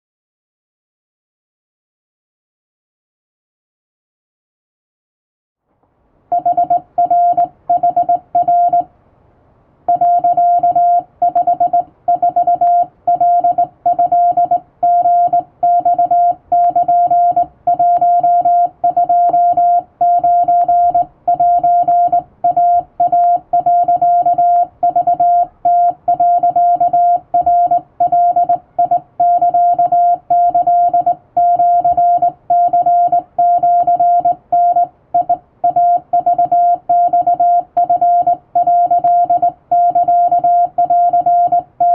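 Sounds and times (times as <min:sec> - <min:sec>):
morse code tone: 0:06.3 - 0:08.9, 0:09.9 - 0:41.9.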